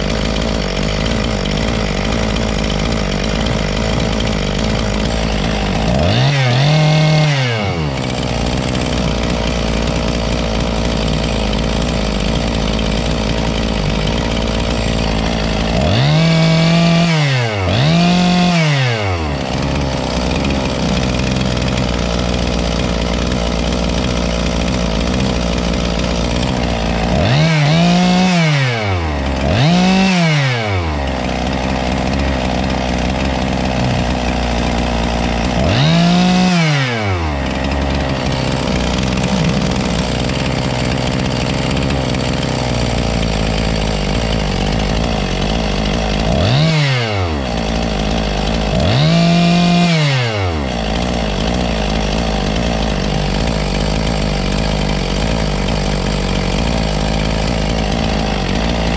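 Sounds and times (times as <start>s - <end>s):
chainsaw revving: 0.0s - 58.9s
chainsaw running: 0.0s - 58.9s.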